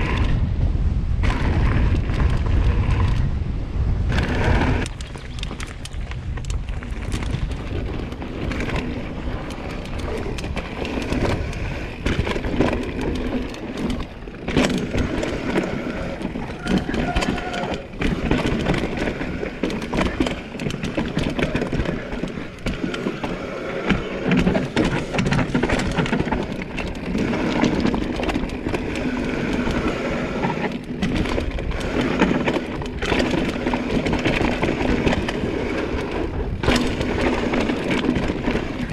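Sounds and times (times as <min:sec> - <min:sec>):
bike rattling over bumps: 0:00.0 - 0:38.9.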